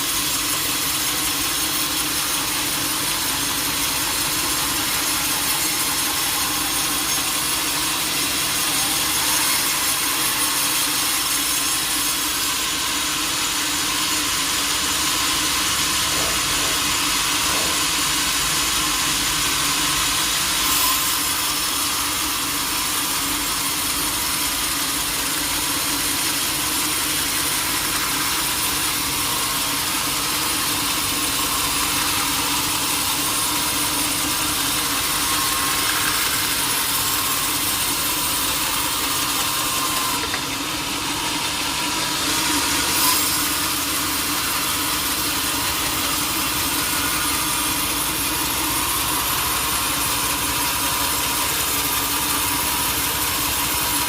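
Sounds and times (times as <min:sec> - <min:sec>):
sawmill machine drone with hiss: 0:00.0 - 0:54.0.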